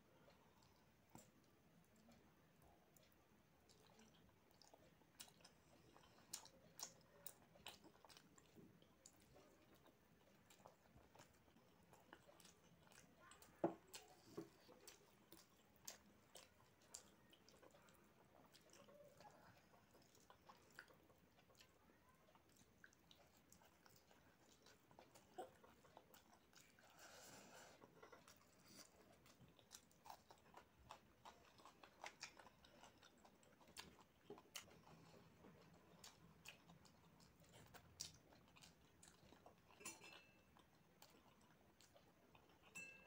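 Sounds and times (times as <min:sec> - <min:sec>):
chewing food: 0:00.0 - 0:43.0.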